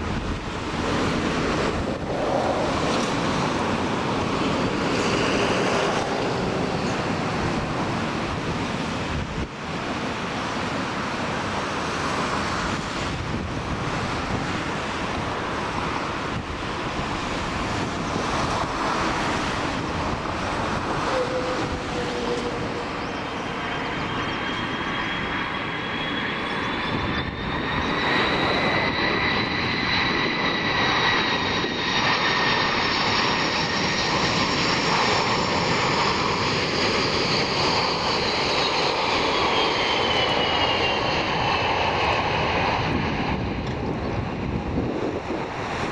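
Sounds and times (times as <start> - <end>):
high turbofan whine: 0.0 - 45.9
jet engine rush: 0.0 - 45.9.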